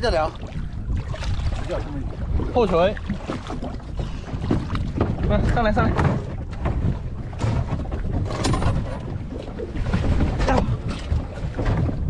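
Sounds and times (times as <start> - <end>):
knocks and splashes of diver climbing: 0.0 - 12.0
water slapping against boat hull: 0.0 - 12.0
wind rumbling on microphone: 0.0 - 12.0.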